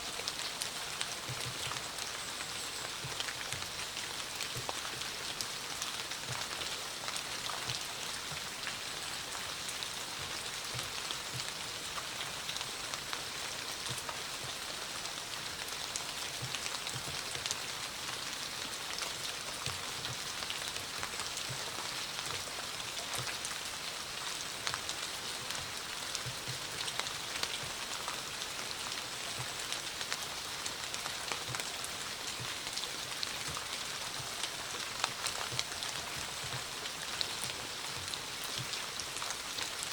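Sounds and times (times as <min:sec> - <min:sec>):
dull low drips: 0:00.1 - 0:39.9
raindrops ticking: 0:00.1 - 0:39.9.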